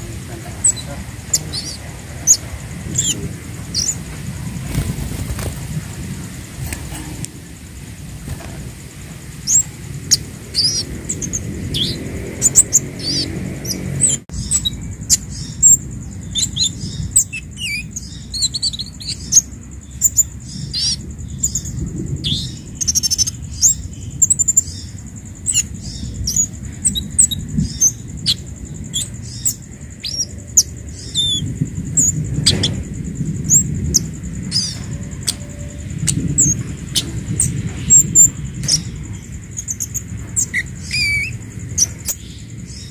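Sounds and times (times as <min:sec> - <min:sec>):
low background rumble: 0:00.0 - 0:42.9
songbird chirping and twittering: 0:00.0 - 0:42.9.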